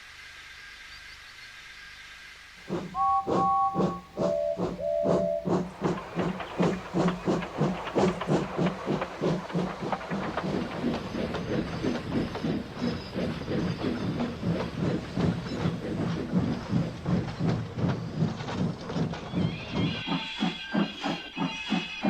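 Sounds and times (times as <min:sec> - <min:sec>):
rail clatter: 0:02.6 - 0:22.0
steam hissing: 0:02.6 - 0:22.0
steam locomotive chuffing: 0:02.6 - 0:22.0.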